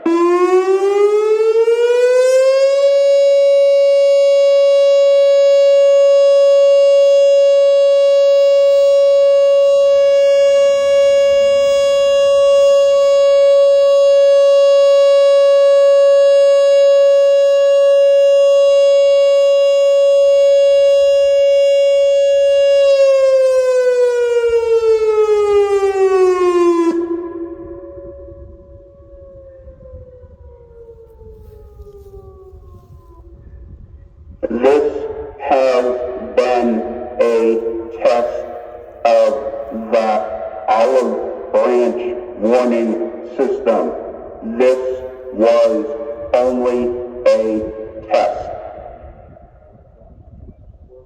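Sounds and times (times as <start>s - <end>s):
outdoor warning siren: 0.0s - 51.0s.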